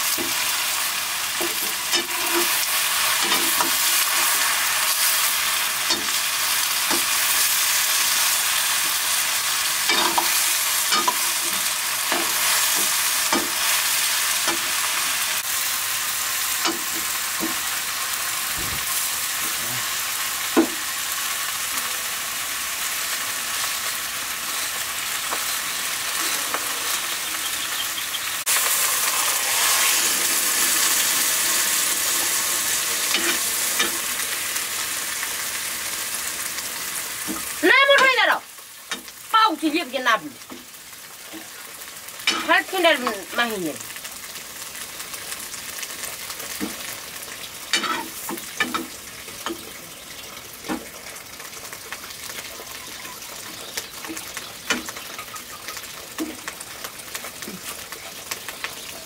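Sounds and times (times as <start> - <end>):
food sizzling in a wok: 0.0 - 59.0.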